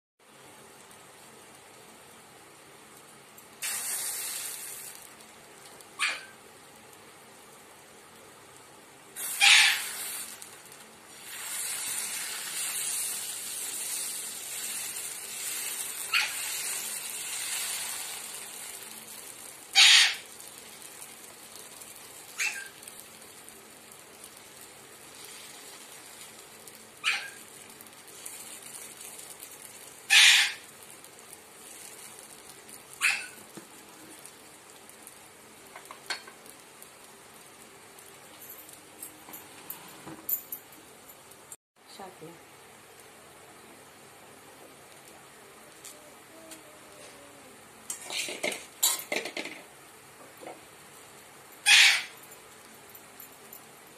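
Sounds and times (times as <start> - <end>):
batter sizzling on a griddle: 0.2 - 39.7, 40.3 - 53.9.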